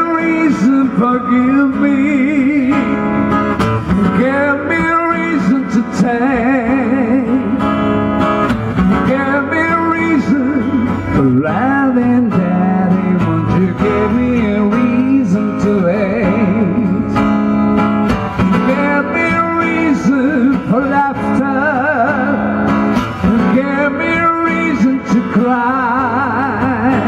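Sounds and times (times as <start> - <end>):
man singing: 0.0 - 7.9, 8.8 - 17.5, 18.4 - 27.0
acoustic guitar: 0.0 - 27.0.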